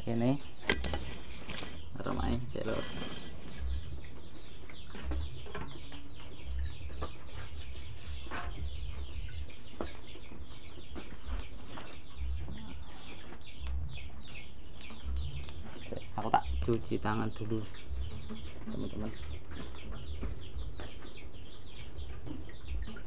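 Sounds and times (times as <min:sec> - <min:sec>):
chickens peeping: 0:00.1 - 0:23.0.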